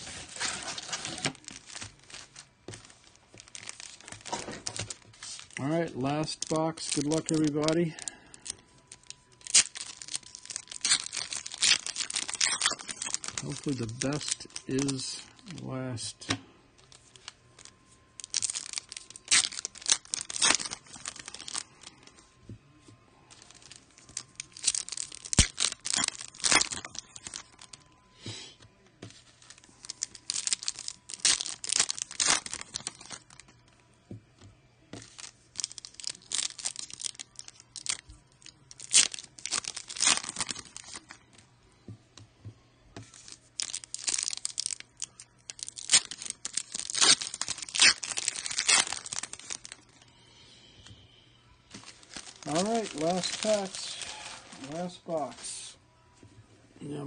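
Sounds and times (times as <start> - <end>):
foil wrappers tearing and crinkling: 0.0 - 22.2, 23.3 - 27.9, 29.1 - 33.7, 34.9 - 41.3, 43.0 - 50.0, 51.7 - 55.7.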